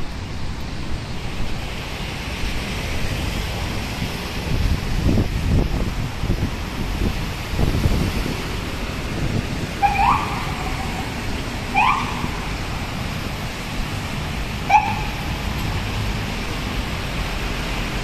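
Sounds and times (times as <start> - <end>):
road traffic on wet pavement: 0.0 - 18.0.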